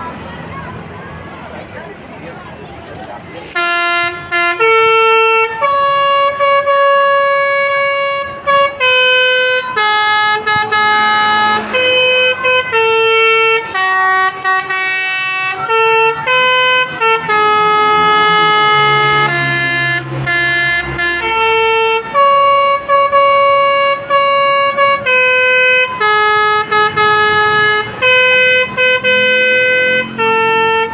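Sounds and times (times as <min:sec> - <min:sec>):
bus musical horn tune: 0:03.6 - 0:30.9.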